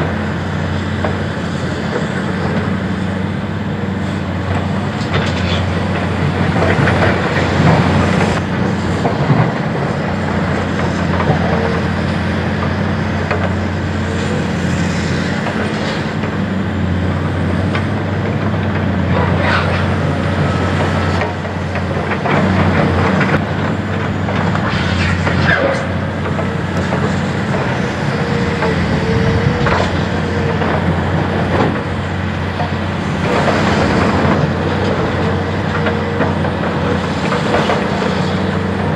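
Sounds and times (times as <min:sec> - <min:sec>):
excavator diesel engines running: 0:00.0 - 0:38.9.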